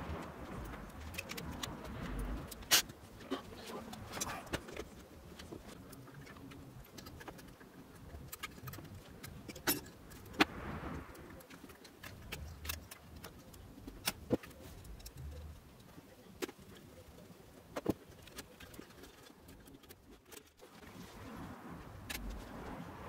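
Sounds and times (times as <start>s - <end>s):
soft rustle: 0.0s - 23.0s
small metal and plastic clicks: 0.2s - 10.5s, 11.1s - 20.7s.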